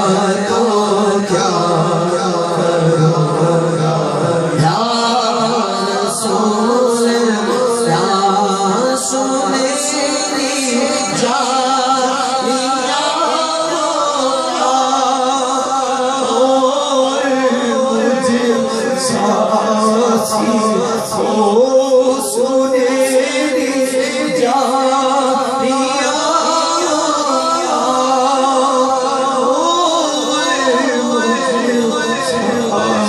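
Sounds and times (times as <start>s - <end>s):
men singing devotional song: 0.0s - 33.0s.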